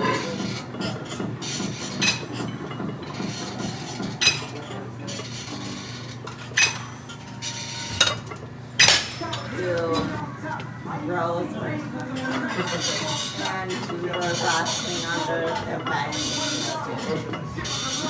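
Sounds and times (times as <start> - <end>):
metal gym equipment clanking: 0.0 - 10.1, 12.2 - 18.0.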